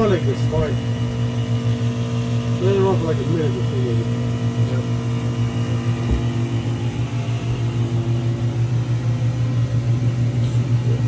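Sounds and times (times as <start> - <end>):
electric pump motor humming: 0.0 - 11.0.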